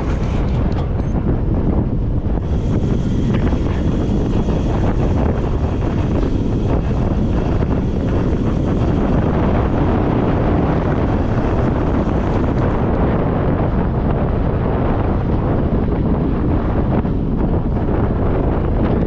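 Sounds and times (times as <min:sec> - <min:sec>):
wind buffeting a microphone: 0:00.0 - 0:19.0.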